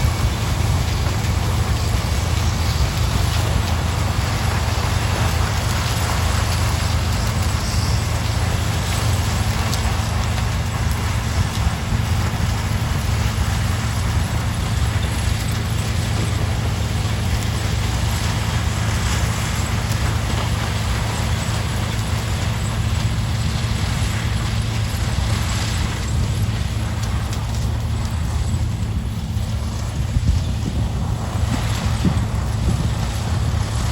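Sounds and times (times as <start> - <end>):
diesel engine humming: 0.0 - 33.9
rushing noise: 0.0 - 33.9.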